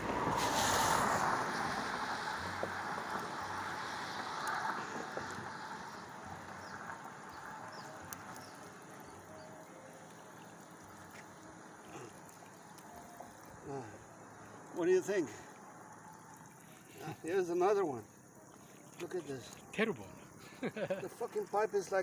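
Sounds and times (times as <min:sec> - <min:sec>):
water hissing from leaking pipe: 0:00.0 - 0:22.0.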